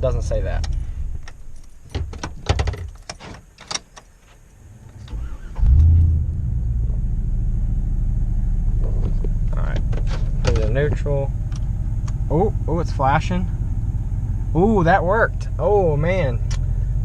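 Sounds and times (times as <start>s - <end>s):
truck engine cranking and idling: 0.0s - 3.6s, 4.6s - 17.0s.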